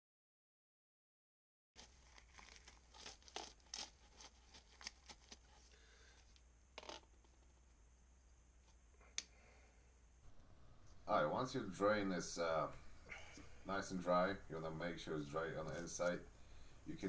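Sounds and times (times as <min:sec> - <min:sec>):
low steady hum: 0:01.8 - 0:17.0.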